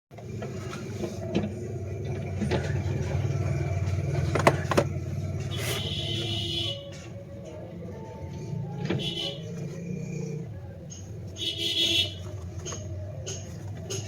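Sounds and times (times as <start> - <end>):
car engine idling: 0.2 - 14.0.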